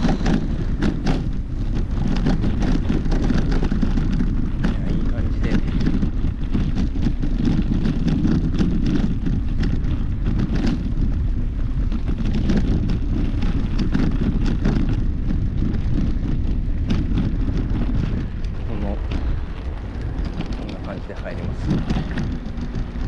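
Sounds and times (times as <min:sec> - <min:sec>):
tyres crunching on dirt path: 0:00.0 - 0:23.0
wind rumbling on microphone: 0:00.0 - 0:23.0.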